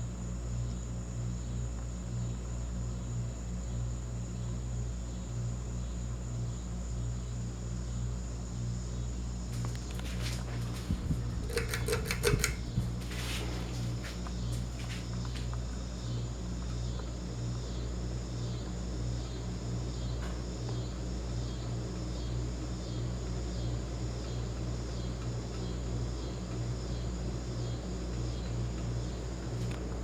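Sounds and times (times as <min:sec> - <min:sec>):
ceiling fan humming and whirring: 0:00.0 - 0:30.0.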